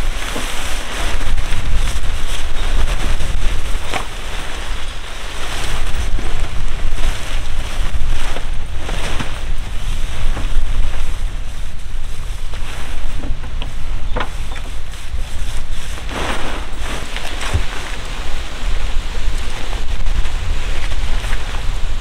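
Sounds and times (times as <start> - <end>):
tent fabric rustling and flapping: 0.0 - 22.0
wind buffeting microphone: 0.0 - 22.0.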